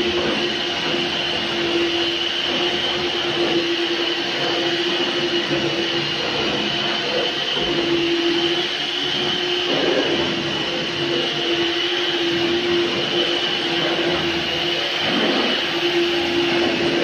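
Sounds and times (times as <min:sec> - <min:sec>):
vacuum cleaner motor humming: 0:00.0 - 0:17.0.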